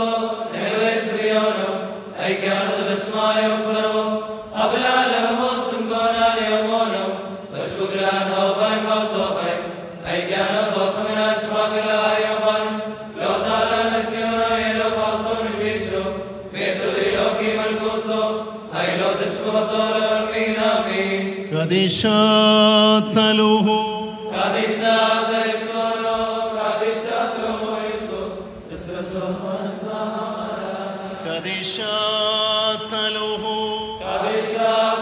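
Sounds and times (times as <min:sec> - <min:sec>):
liturgical chanting: 0:00.0 - 0:35.0.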